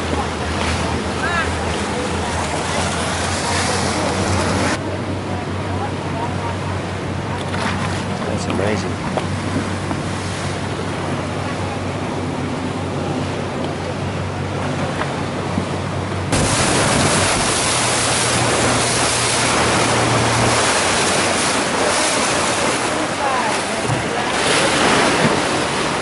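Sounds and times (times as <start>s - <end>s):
speedboat engine running: 0.0s - 26.0s
wind and water rushing: 0.0s - 26.0s.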